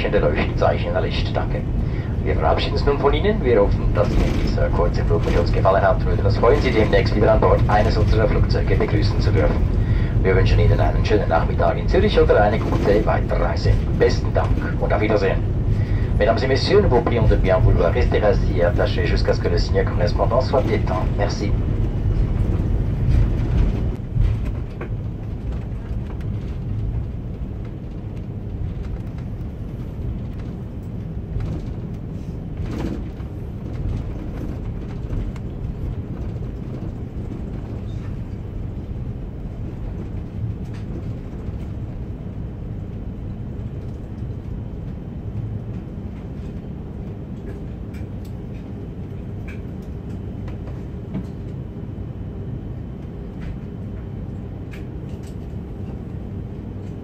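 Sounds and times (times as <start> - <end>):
jet engines idling: 0.0 - 57.0.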